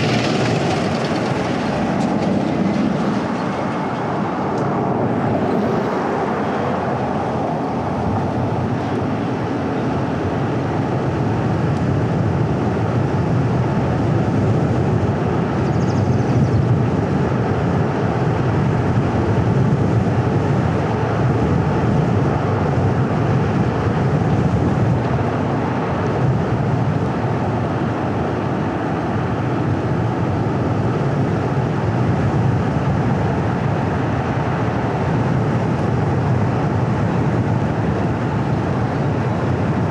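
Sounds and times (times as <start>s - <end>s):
low engine hum: 0.0s - 39.9s
tyre and road noise: 0.0s - 39.9s.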